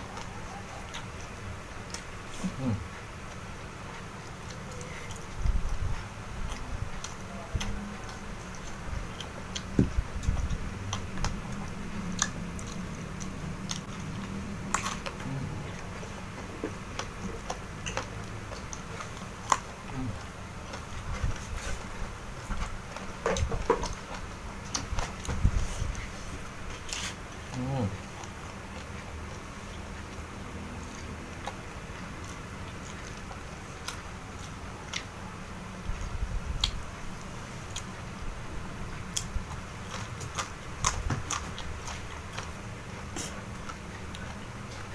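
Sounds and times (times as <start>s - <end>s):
person chewing crunchily: 0.0s - 44.9s.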